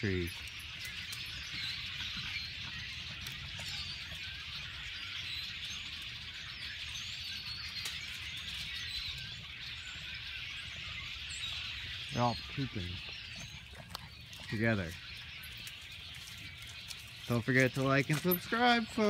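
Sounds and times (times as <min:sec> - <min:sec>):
flock of birds chirping: 0:00.0 - 0:19.0.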